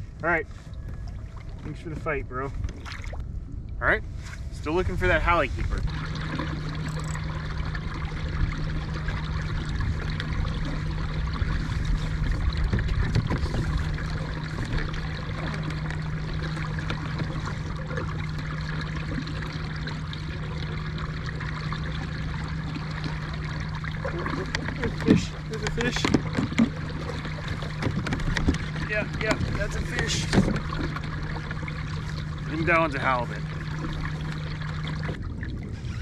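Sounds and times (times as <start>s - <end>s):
water lapping along hull: 0.0s - 36.0s.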